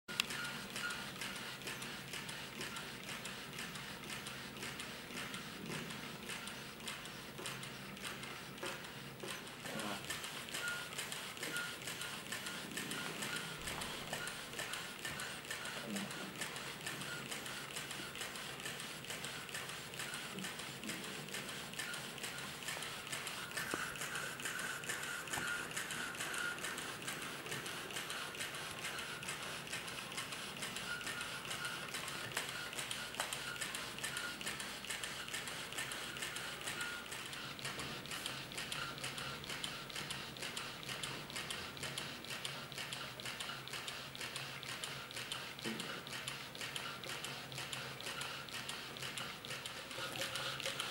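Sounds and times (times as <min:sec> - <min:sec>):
model steam engine clicking: 0:00.1 - 0:50.9.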